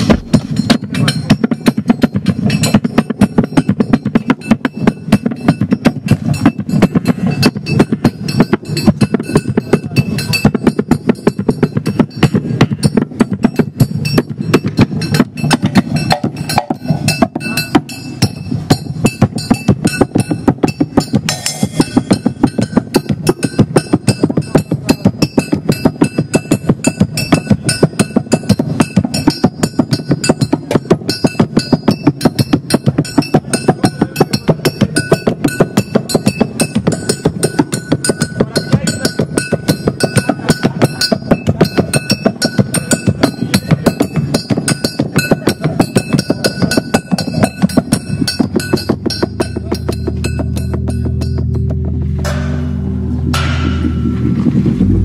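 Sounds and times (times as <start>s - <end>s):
faint steady tones: 0.0s - 55.0s
fast knocking percussion beat: 0.0s - 55.0s.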